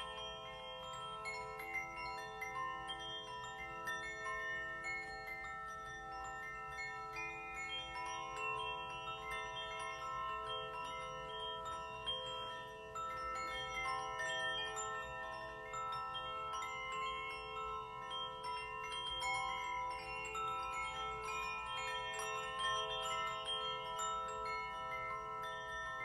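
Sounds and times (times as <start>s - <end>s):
metal chimes ringing: 0.0s - 26.0s.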